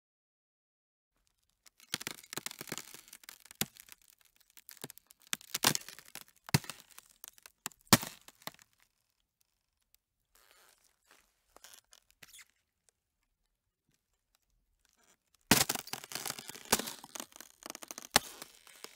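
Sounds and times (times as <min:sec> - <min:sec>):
ice creaking and cracking: 0:01.2 - 0:13.0, 0:14.2 - 0:18.9.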